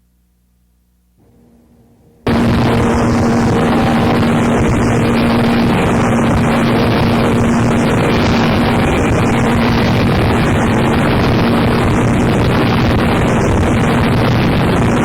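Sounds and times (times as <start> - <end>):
dense wall of static: 0.0 - 15.0
faint hum: 0.0 - 15.0
low drone: 1.2 - 15.0
whooshing sweep: 2.3 - 15.0.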